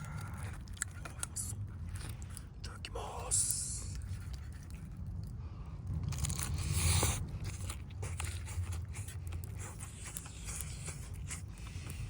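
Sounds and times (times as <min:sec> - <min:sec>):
crunchy chewing: 0:00.0 - 0:02.9, 0:03.8 - 0:12.0.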